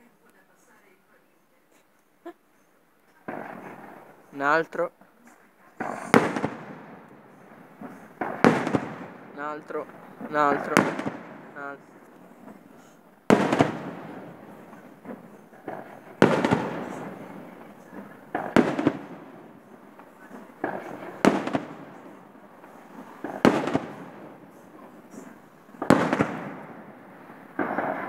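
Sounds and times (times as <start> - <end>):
small firework cracks: 3.0 - 28.0
firework bangs with echo: 3.2 - 4.8, 5.8 - 28.0.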